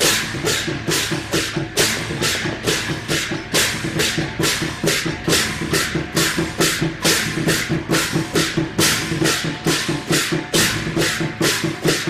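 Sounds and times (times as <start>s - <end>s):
drums beating: 0.0s - 12.0s
hand cymbals crashing: 0.0s - 12.0s.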